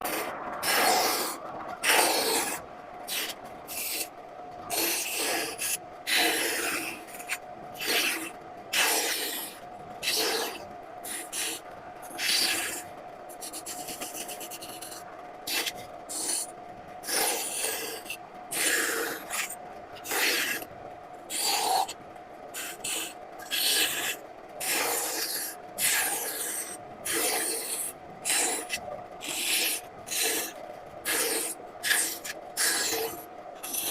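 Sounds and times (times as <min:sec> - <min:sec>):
hand tool rasping across wood: 0:00.0 - 0:04.1, 0:04.7 - 0:12.8, 0:13.4 - 0:20.6, 0:22.6 - 0:33.9
faint steady hum: 0:00.0 - 0:33.9.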